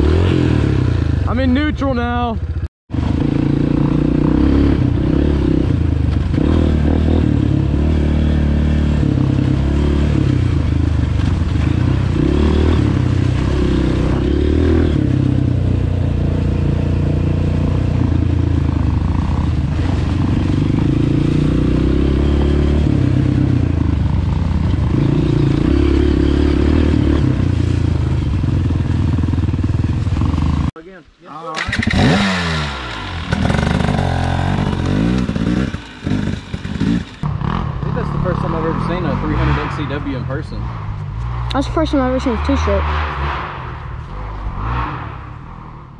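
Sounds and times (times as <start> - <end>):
dirt bike engine revving: 0.0 - 30.7, 31.5 - 45.9
bike rattling and scraping: 3.0 - 30.8, 31.5 - 45.9.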